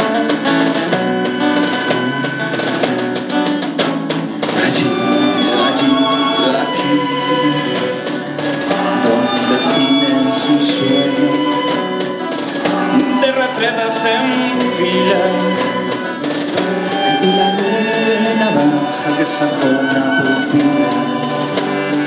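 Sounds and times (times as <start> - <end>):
acoustic guitar: 0.0 - 22.0
instrumental ensemble: 0.0 - 22.0
violin: 0.0 - 22.0
woodwind melody: 0.0 - 22.0.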